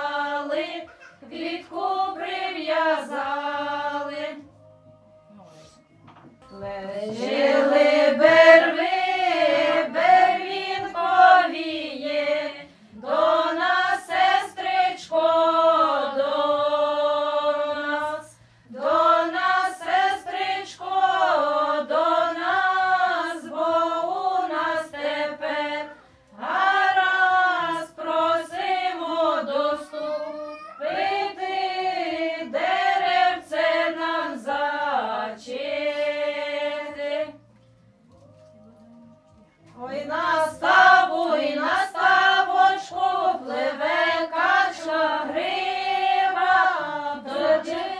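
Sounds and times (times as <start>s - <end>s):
women singing together: 0.0s - 4.6s, 6.4s - 30.1s, 30.8s - 37.5s, 39.6s - 47.9s.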